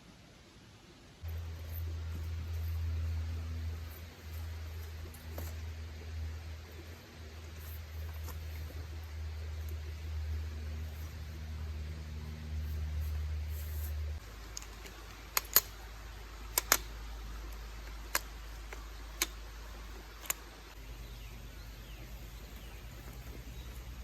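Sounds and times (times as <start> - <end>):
low hum: 1.2 - 24.0.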